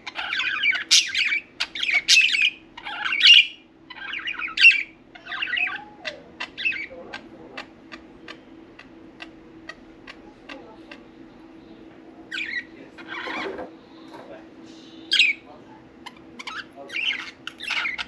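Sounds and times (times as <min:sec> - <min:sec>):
budgerigars chirping and squawking: 0:00.0 - 0:11.4, 0:12.3 - 0:14.4, 0:15.0 - 0:18.0.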